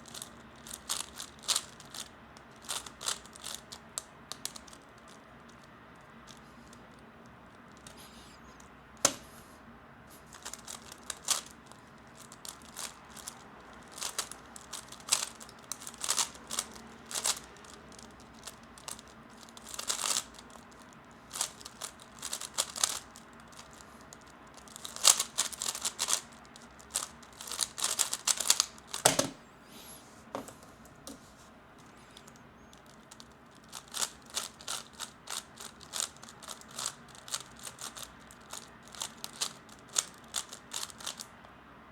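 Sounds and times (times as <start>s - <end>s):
plastic puzzle cube clicking: 0.0s - 6.9s, 10.3s - 29.3s, 32.2s - 41.3s.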